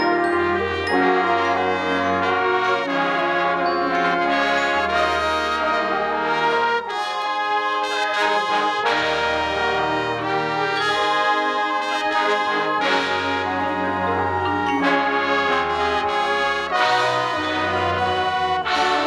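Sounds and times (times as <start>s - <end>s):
brass section playing chords: 0.0s - 19.0s.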